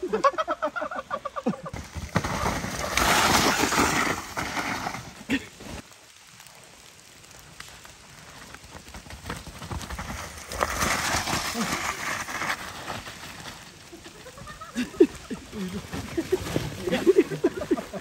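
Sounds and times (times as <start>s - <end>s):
bike tyres sliding over mud: 0.0s - 18.0s.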